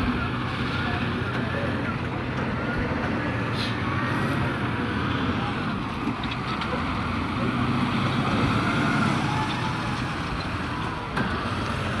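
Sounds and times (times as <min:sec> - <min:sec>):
heavy machinery engines rumbling: 0:00.0 - 0:12.0.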